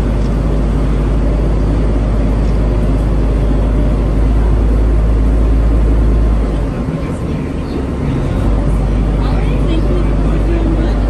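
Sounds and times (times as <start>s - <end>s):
ferry engine rumble: 0.0s - 11.0s.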